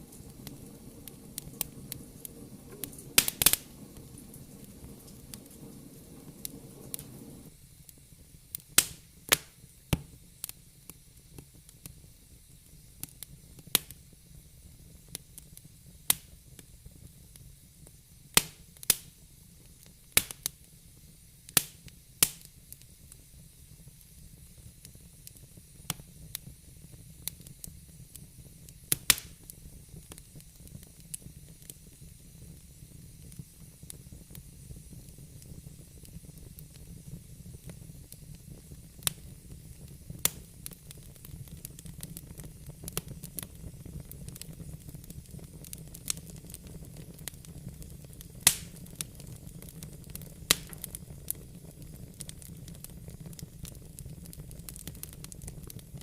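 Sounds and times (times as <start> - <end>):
fire crackling and popping: 0.0 - 56.0
low rush of flame: 0.0 - 56.0.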